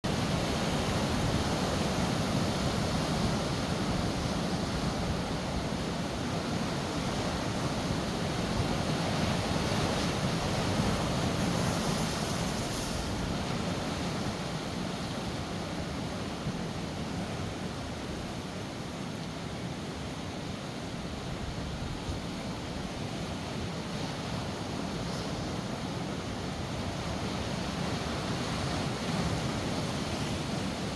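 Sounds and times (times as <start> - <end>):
waves breaking: 0.1 - 30.9.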